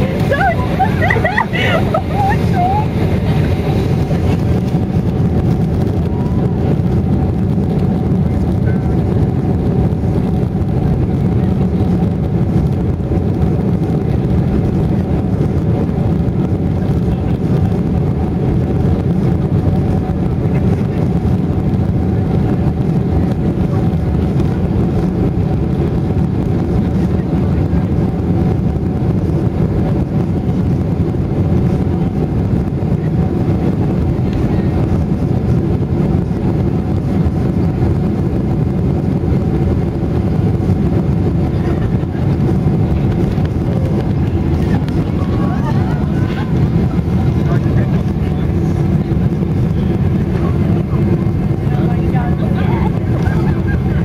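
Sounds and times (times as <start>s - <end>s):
aircraft cabin engine noise: 0.0s - 54.0s.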